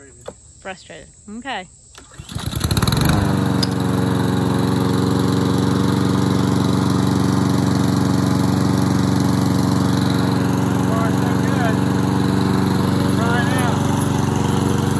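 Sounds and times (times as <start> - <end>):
lawn mower engine running: 2.0 - 14.9.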